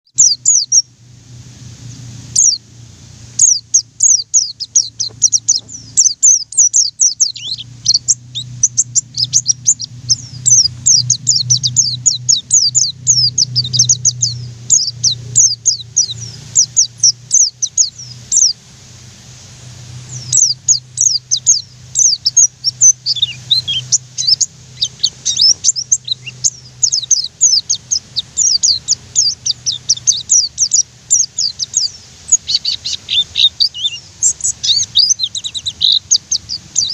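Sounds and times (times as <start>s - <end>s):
bird chirping song: 0.0s - 1.0s, 1.8s - 36.9s
steady low hum: 0.1s - 36.9s.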